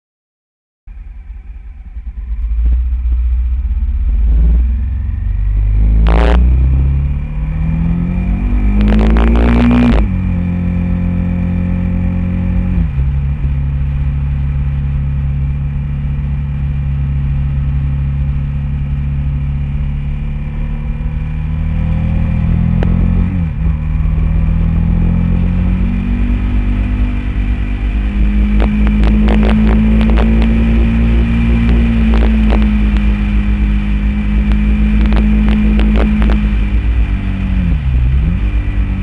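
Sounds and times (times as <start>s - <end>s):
motorcycle engine running hard: 0.9s - 39.0s.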